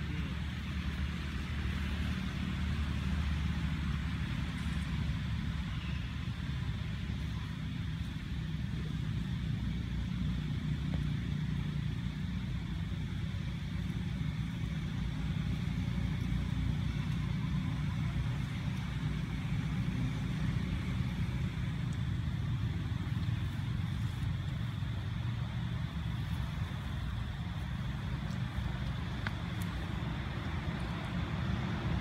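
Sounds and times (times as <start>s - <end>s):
motor idling rumble: 0.0s - 32.0s.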